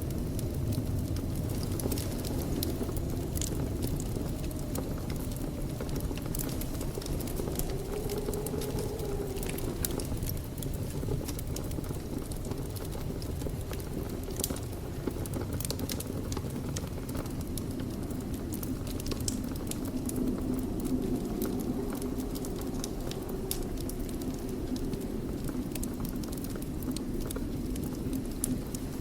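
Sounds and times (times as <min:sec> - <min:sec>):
burning wood crackling: 0:00.0 - 0:29.0
low rumble of flames: 0:00.0 - 0:29.0.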